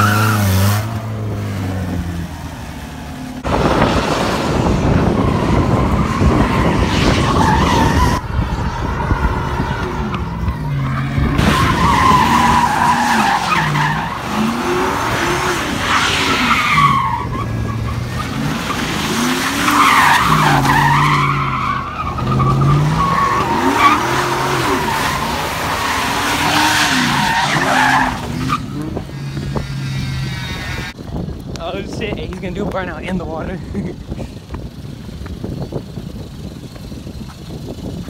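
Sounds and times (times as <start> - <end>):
tires squealing on pavement: 0.0 - 31.0
truck engine revving: 0.0 - 31.0.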